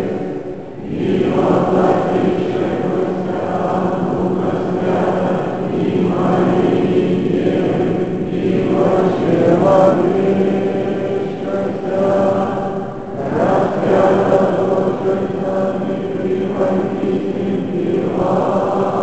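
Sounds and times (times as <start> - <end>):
church choir chanting: 0.0 - 19.0.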